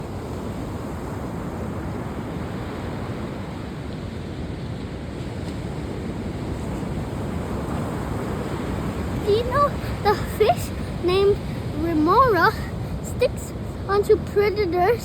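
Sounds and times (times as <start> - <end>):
rushing water: 0.0 - 15.0
wind: 0.0 - 15.0.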